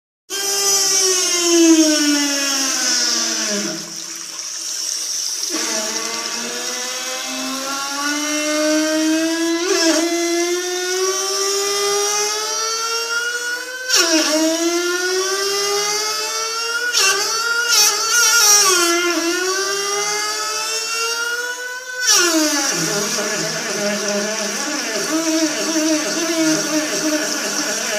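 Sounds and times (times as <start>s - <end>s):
plumbing whining: 0.3s - 27.9s.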